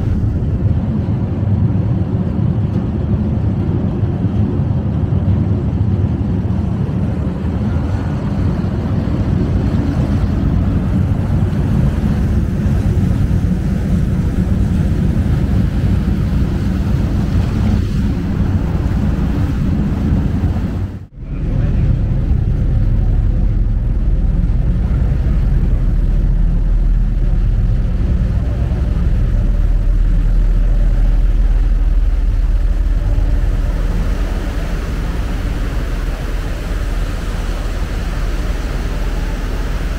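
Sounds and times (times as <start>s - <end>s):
deep low hum: 0.0s - 39.9s
ship engine drone: 0.0s - 39.9s
water rushing: 0.0s - 39.9s.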